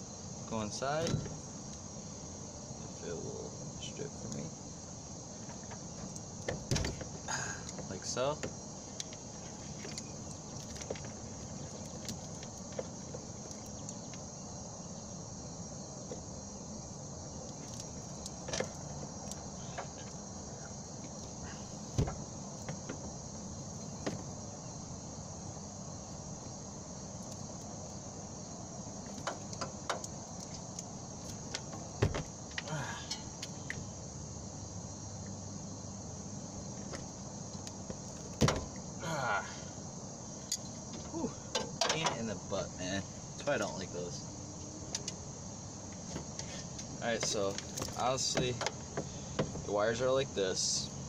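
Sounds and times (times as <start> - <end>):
high-pitched insect chirring: 0.0 - 51.0.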